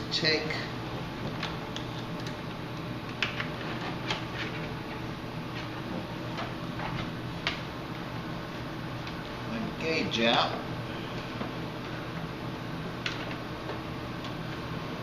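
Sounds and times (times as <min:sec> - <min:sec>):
small fans humming: 0:00.0 - 0:15.0.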